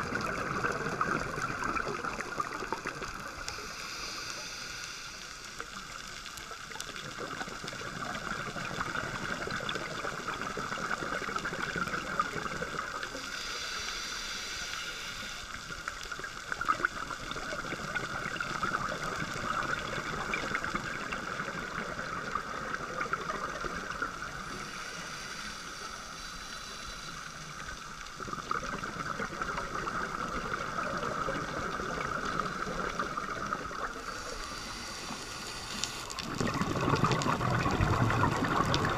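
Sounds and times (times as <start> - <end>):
underwater bubbling: 0.0 - 38.9
underwater watery hiss: 0.0 - 38.9.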